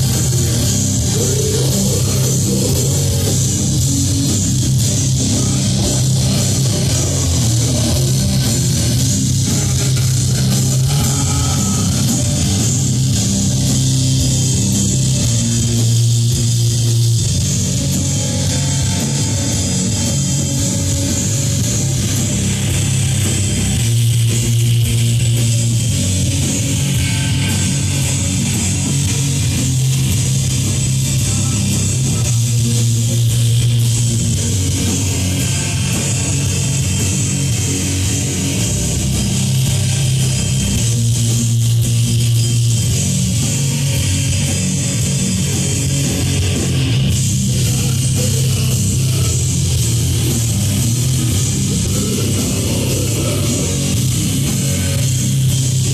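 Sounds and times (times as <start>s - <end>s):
distorted guitar and bass chords: 0.0s - 55.9s
drums: 0.0s - 55.9s.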